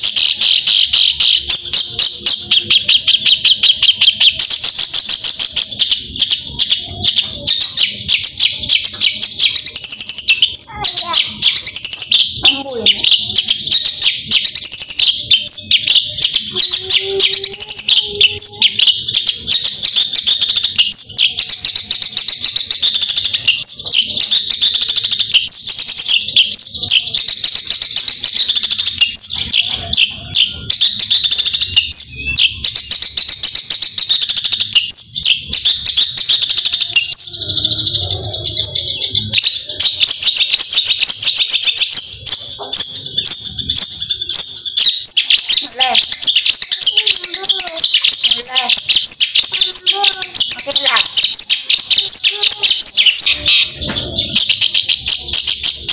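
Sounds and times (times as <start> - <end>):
shrike singing chattering notes: 0.0 - 55.9.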